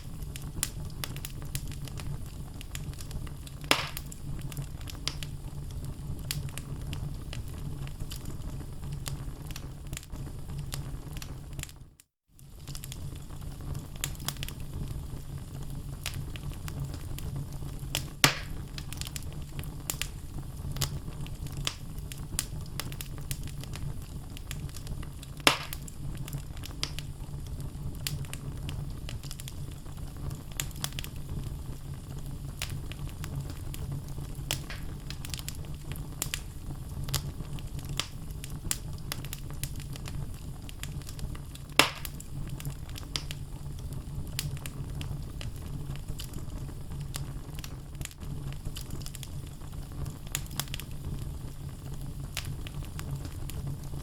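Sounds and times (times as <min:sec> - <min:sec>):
loud fire pops: 0:00.0 - 0:11.8, 0:12.4 - 0:54.0
fire crackling: 0:00.0 - 0:54.0
low rumble of flames: 0:00.0 - 0:54.0.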